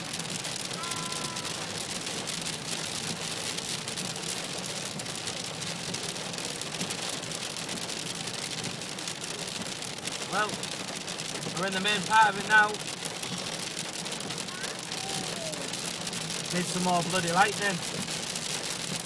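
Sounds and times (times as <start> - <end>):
rain and hail on car roof: 0.0 - 19.0.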